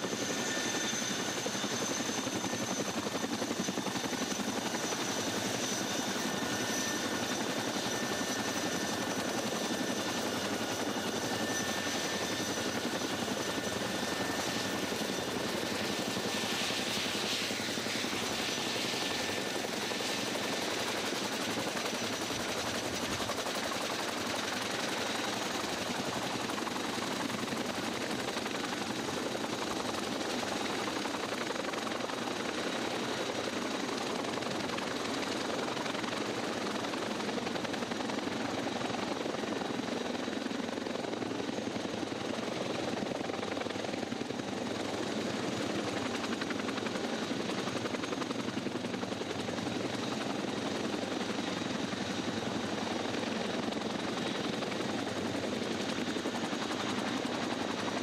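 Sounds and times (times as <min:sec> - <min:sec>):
helicopter rotor and engine noise: 0:00.0 - 0:58.0.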